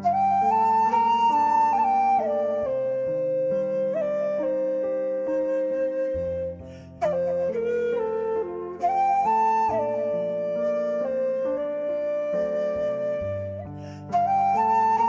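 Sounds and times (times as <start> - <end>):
slow background music: 0.0 - 15.0.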